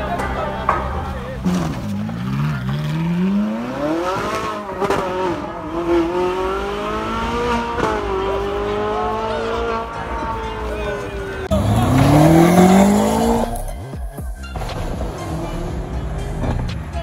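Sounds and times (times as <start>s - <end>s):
car engine revving: 1.3s - 17.0s.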